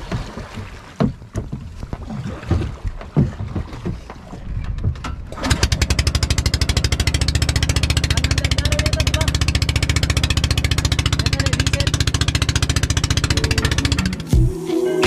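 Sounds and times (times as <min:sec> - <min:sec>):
knocks and bumps: 0:00.0 - 0:14.4
small boat engine chugging: 0:00.0 - 0:14.5.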